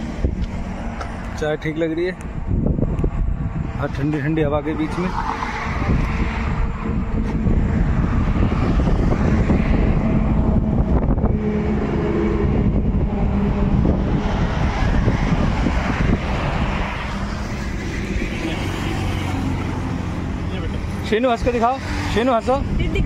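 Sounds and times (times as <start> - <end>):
highway traffic passing: 0.0 - 23.0
wind on microphone: 0.0 - 23.0.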